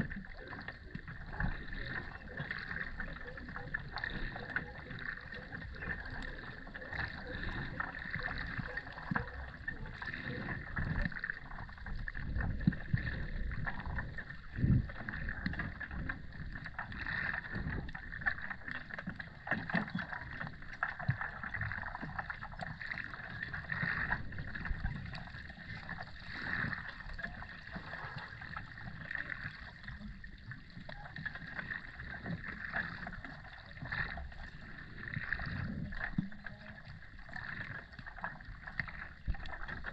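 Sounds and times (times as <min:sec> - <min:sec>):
muffled churning water underwater: 0:00.0 - 0:39.9
small clicks and crackles: 0:00.0 - 0:39.9.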